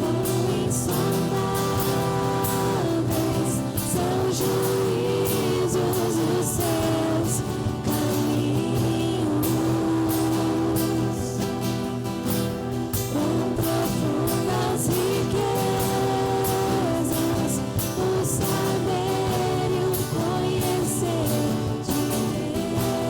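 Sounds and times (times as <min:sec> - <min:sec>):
band playing with singing: 0:00.0 - 0:23.0.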